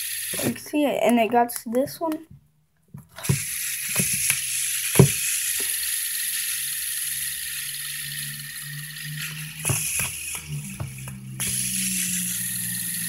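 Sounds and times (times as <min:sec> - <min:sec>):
fidget spinner whirring: 0:00.0 - 0:01.9, 0:03.0 - 0:13.0.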